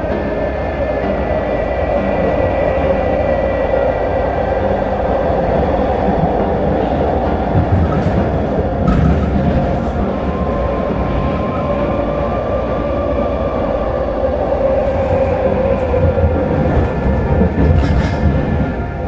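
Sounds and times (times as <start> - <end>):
train rumble on track: 0.0 - 19.0.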